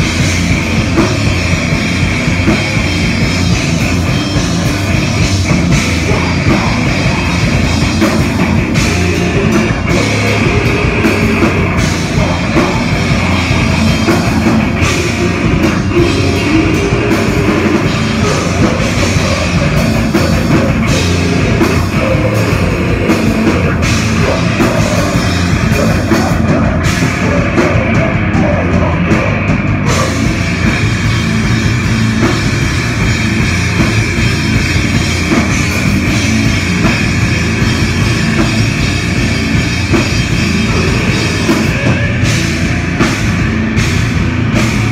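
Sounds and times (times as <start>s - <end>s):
bass guitar: 0.0s - 44.9s
drum kit: 0.0s - 44.9s
electric guitars: 0.0s - 44.9s.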